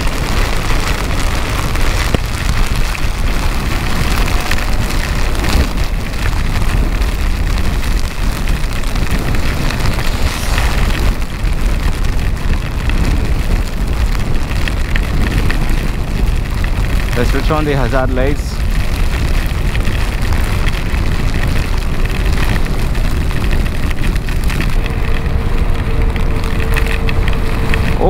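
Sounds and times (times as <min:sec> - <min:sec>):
heavy rain: 0:00.0 - 0:28.0
wind rumbling over microphone: 0:00.0 - 0:28.0.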